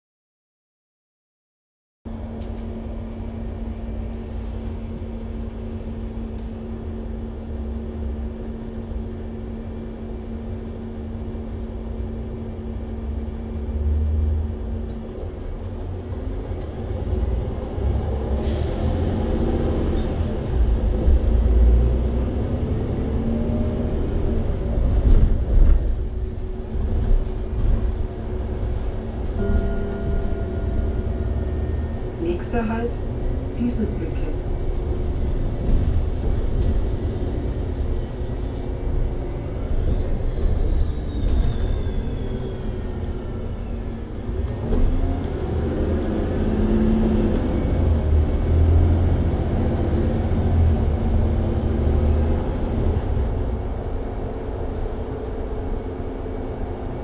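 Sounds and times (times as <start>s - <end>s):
bus engine humming: 2.1s - 57.0s.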